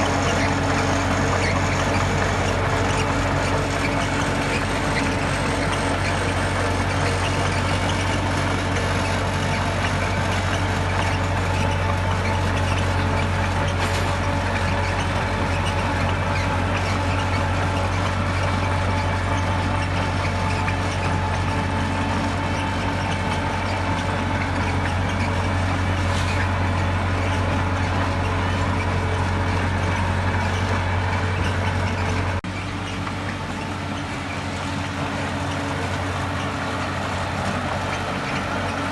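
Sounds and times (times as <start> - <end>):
constant machine whine: 0.0 - 38.9
diesel engine drone: 0.0 - 38.9
quieter engine sound: 0.0 - 38.9.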